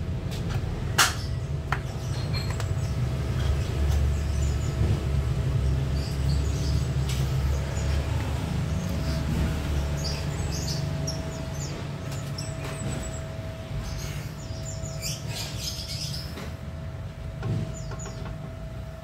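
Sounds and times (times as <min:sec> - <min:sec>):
small birds chirping: 0:01.2 - 0:16.6
steady hum: 0:03.0 - 0:19.0.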